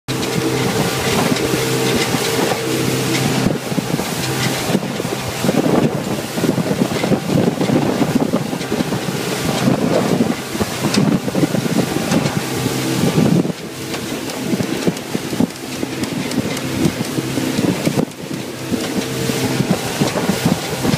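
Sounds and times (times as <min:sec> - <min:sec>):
motorboat engine drone: 0:00.1 - 0:20.9
water rushing past hull: 0:00.1 - 0:20.9
wind buffeting on microphone: 0:00.1 - 0:20.9.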